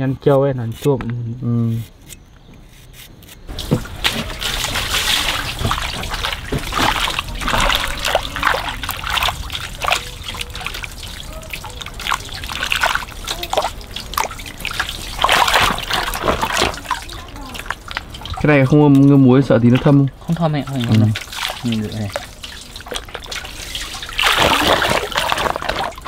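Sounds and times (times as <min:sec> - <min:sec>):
water trickling and splashing: 0:03.5 - 0:26.0.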